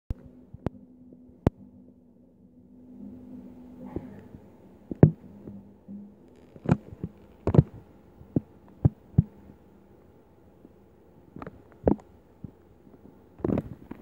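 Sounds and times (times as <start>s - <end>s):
faint steady hum: 0.1s - 14.0s.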